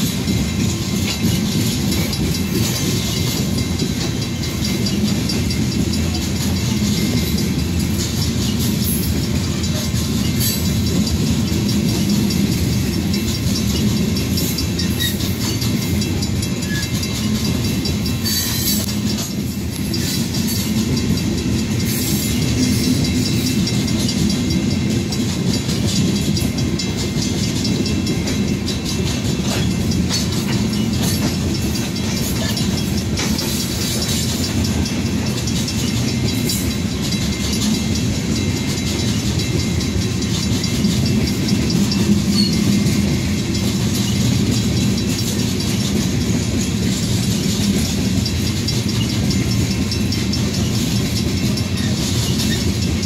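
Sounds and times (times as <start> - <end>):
clickety-clack of rail joints: 0.0 - 53.0
train wheels rumbling on rails: 0.0 - 53.0.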